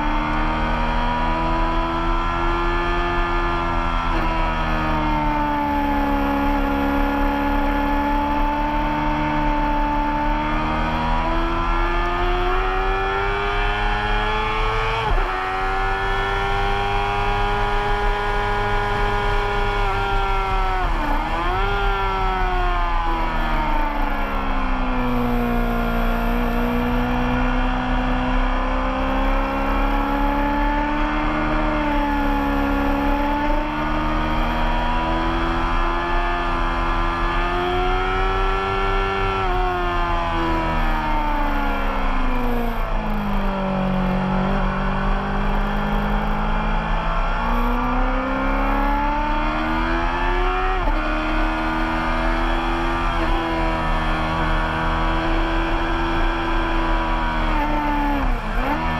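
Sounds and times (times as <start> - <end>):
racing motorcycle engine: 0.0 - 58.9.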